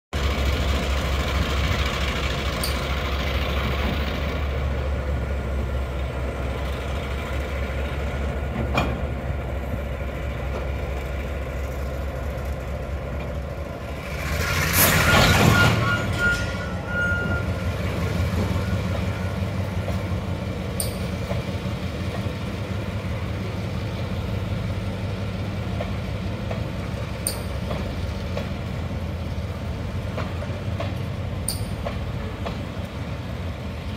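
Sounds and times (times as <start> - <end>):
diesel locomotive engine rumbling: 0.1 - 33.9
freight wagons rolling past: 0.2 - 33.9.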